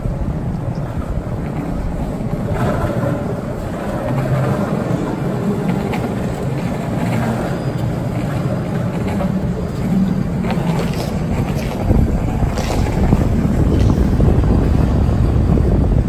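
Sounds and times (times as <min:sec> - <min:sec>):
skateboard wheels rolling on concrete: 0:00.0 - 0:16.0.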